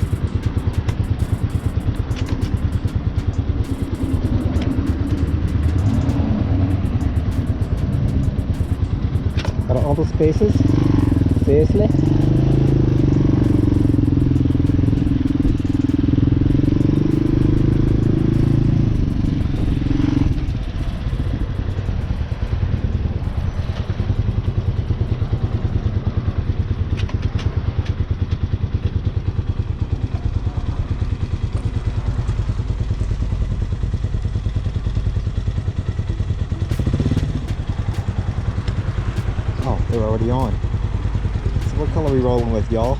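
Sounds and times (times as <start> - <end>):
motorcycle engine revving and idling: 0.0 - 42.9.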